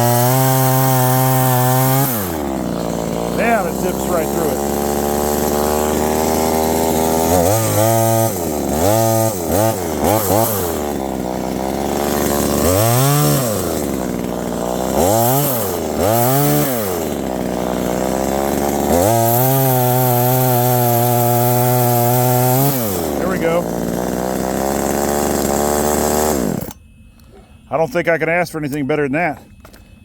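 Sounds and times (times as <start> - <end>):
chainsaw idling and revving: 0.0 - 27.0.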